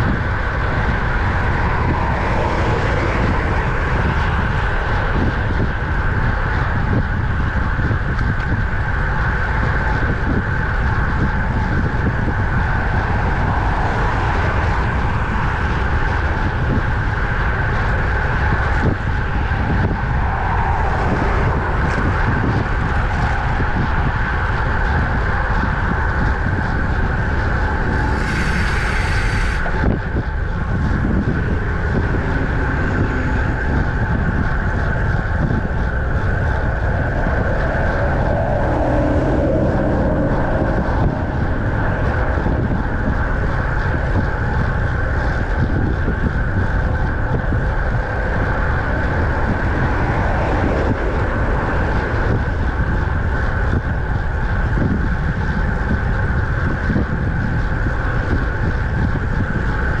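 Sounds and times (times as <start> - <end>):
road and tyre noise: 0.0 - 60.0
wind rushing over microphone: 0.0 - 60.0.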